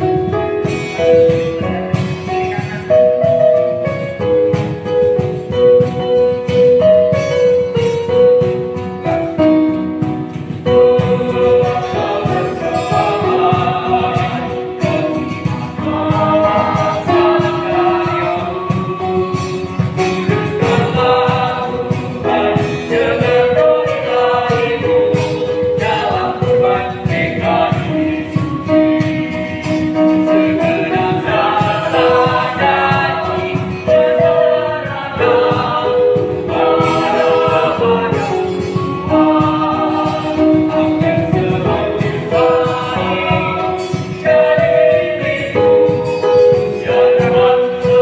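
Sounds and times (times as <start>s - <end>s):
choir singing in harmony: 0.0s - 48.0s.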